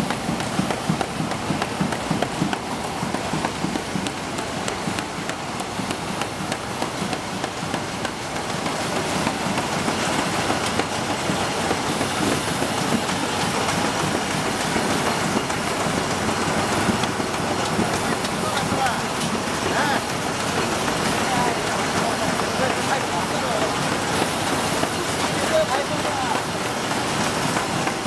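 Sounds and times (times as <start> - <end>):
folder gluer machine running: 0.0 - 28.0.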